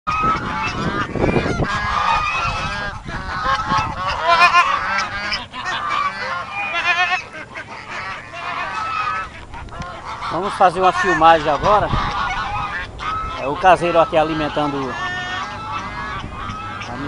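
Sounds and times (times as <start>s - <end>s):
fowl honking calls: 0.1s - 17.0s.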